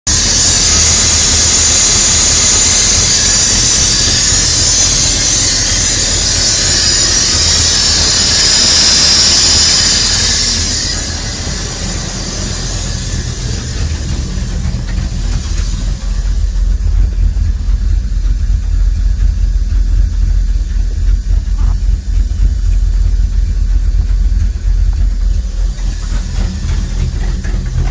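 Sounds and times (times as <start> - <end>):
truck engine idling: 0.0 - 27.9
loud hiss from engine: 0.1 - 27.9.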